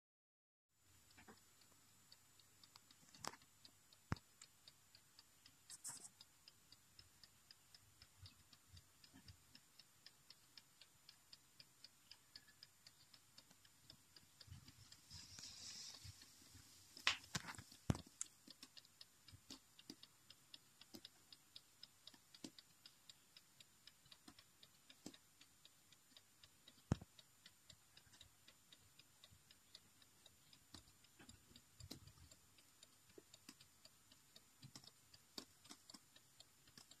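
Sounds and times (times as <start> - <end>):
clock ticking faintly: 0.8 - 37.0.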